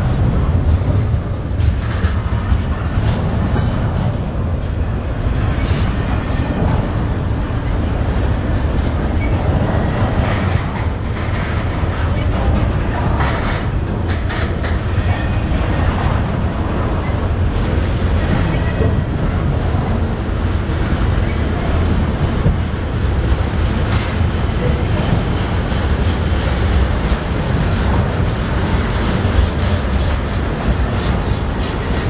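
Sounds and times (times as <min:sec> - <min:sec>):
freight train rolling past: 0:00.0 - 0:32.0.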